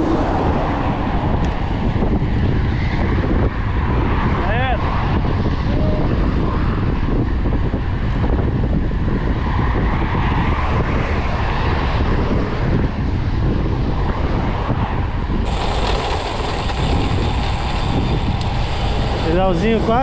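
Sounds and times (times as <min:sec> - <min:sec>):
bicycle tyre noise on road: 0:00.0 - 0:20.0
wind rushing over microphone: 0:00.0 - 0:20.0.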